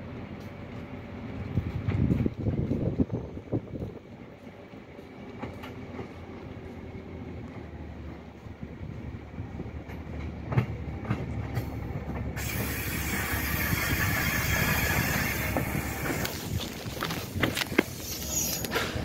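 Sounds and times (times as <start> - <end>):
rail motor car rumbling on tracks: 0.0 - 19.0.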